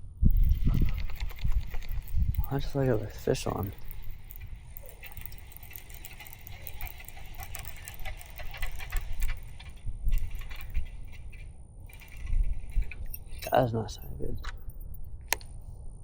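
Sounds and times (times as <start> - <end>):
wind rumbling on microphone: 0.0 - 16.0
fishing reel clicking: 0.2 - 13.7.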